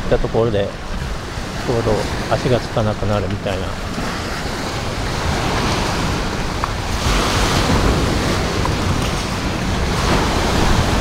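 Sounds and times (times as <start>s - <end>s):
waves washing onto beach: 0.0s - 11.0s
wind rumbling on microphone: 0.0s - 11.0s.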